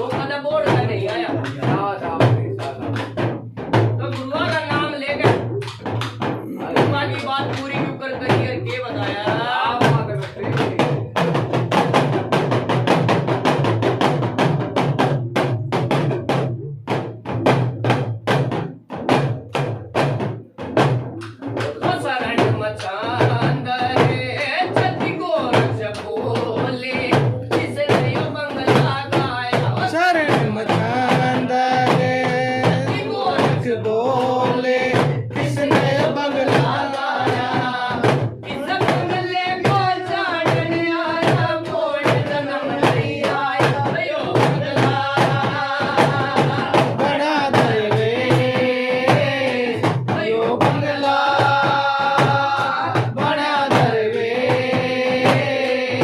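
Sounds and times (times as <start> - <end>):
rapid drum strokes: 0.0 - 56.0.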